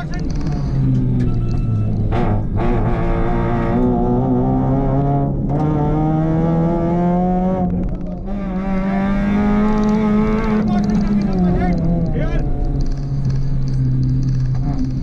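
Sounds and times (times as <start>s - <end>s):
car engine accelerating and shifting: 0.0s - 15.0s.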